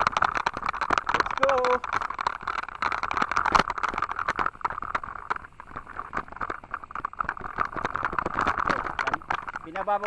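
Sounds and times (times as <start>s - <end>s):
bike clattering over stones: 0.0s - 10.0s.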